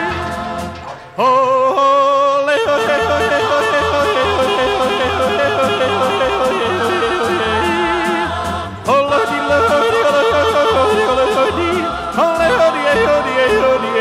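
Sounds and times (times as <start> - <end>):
backing music with steady beat: 0.0 - 1.2, 2.6 - 14.0
person yodeling: 1.2 - 14.0.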